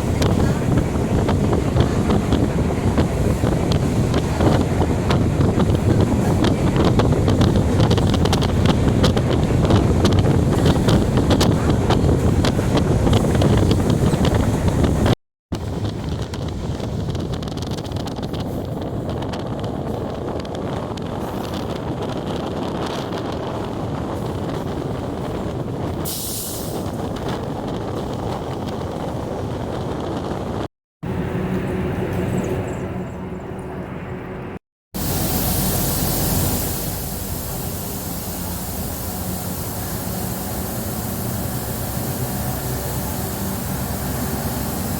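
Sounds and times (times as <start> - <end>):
train rumbling: 0.0 - 44.9
wind buffeting microphone: 0.0 - 44.9.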